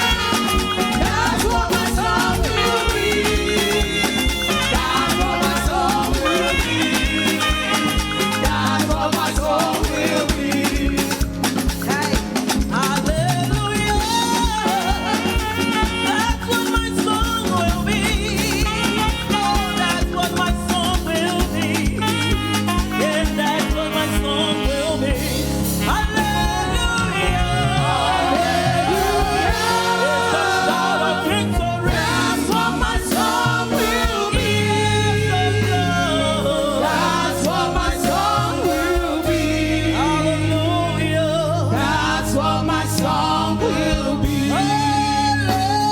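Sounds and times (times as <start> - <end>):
gospel singing over a band: 0.0 - 45.9.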